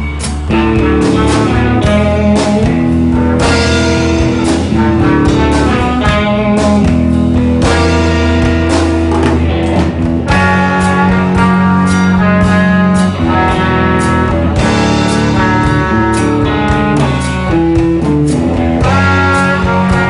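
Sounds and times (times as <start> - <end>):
drum kit: 0.0 - 20.0
electric bass: 0.0 - 20.0
electric guitar: 0.0 - 20.0
trombone: 0.0 - 20.0.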